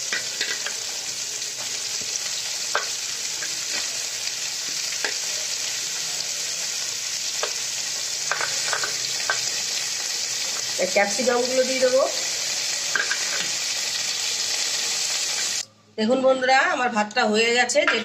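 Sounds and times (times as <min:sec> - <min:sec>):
vegetables sizzling in hot oil: 0:00.0 - 0:15.6.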